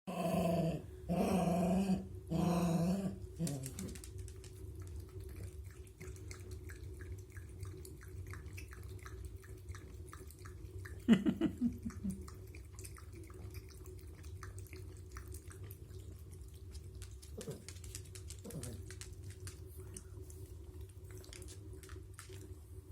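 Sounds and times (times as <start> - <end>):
faint steady hum: 0.1 - 22.9.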